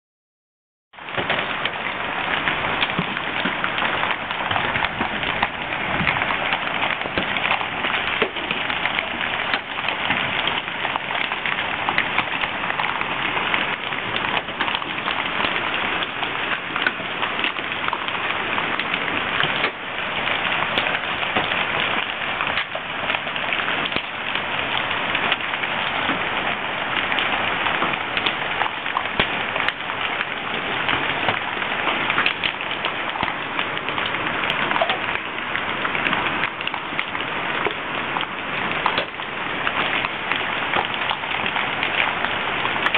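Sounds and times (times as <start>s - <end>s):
hail clattering on the ground: 1.0s - 42.9s.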